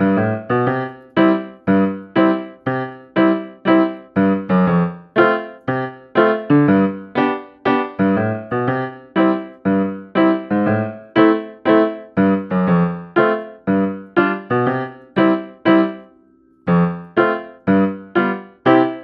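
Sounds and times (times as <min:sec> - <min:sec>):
keyboard playing bright melody: 0:00.0 - 0:19.0.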